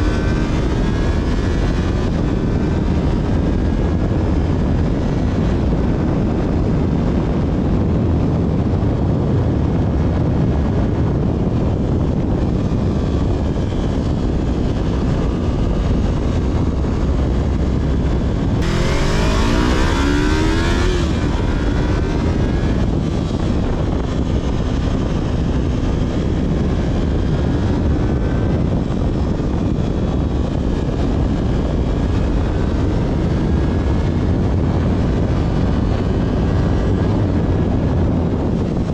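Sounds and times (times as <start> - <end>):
motorcycle engine while riding: 0.0 - 38.9
wind and road noise: 0.0 - 38.9.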